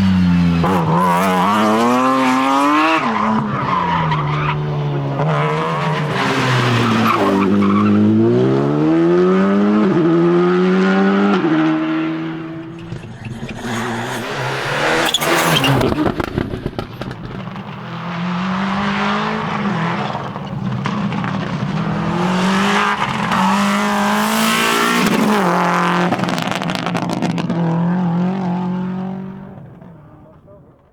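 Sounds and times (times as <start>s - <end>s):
tyres skidding on road: 0.0s - 9.0s, 10.8s - 30.6s
rally car engine revving: 0.0s - 30.7s.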